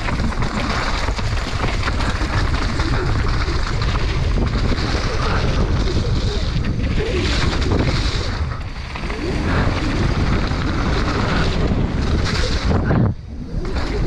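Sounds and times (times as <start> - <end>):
mountain bike rumble and rattle: 0.0 - 14.0
wind buffeting microphone: 0.0 - 14.0.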